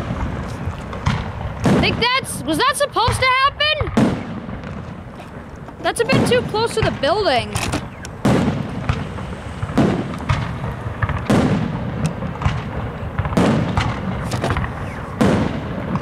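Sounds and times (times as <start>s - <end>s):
small firework cracks and pops: 0.0s - 2.0s, 3.1s - 16.0s
firework shells booming: 0.0s - 16.0s.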